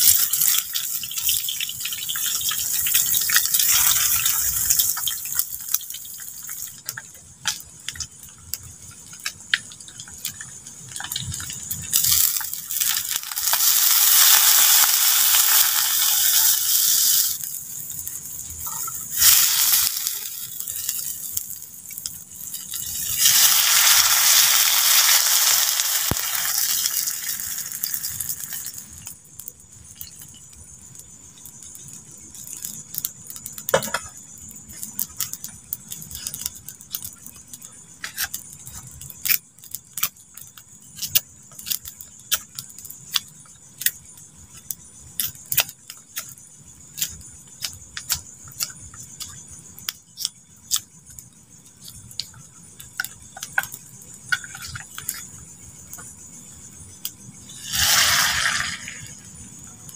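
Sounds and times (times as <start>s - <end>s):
frying sizzle: 0.0s - 59.9s.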